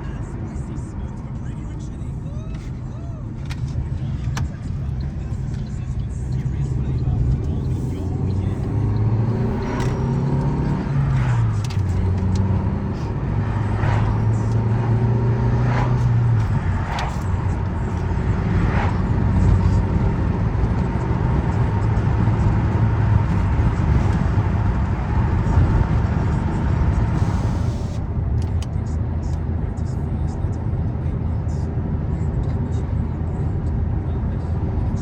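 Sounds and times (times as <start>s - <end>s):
car engine hum: 0.0s - 35.0s
road noise: 0.0s - 35.0s.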